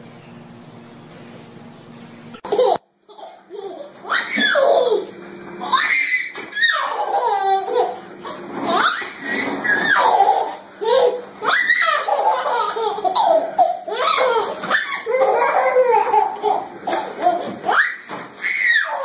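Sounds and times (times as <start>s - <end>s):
baby laughing: 2.4s - 19.0s.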